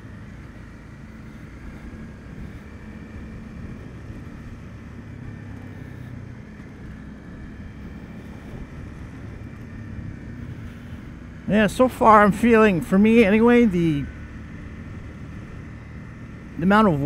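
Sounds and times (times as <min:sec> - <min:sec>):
motorcycle engine running: 0:00.0 - 0:17.0
road noise: 0:00.0 - 0:17.0.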